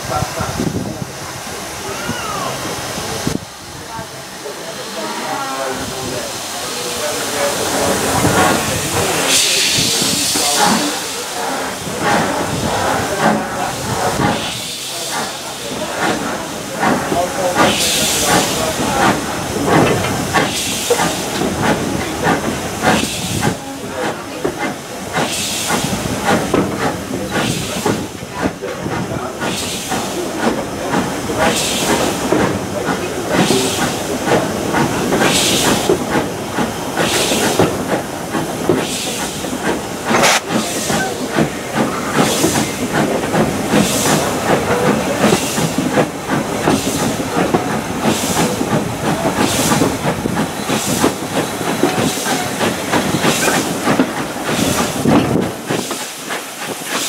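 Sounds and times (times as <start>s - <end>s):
steam locomotive chuffing: 0.0s - 57.0s
train rumble: 0.0s - 57.0s.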